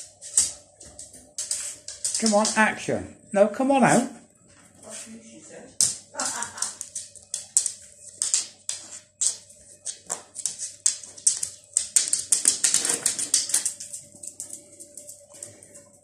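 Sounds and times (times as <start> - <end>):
dog claws scrabbling on hard floor: 0.0 - 2.7, 5.7 - 15.9.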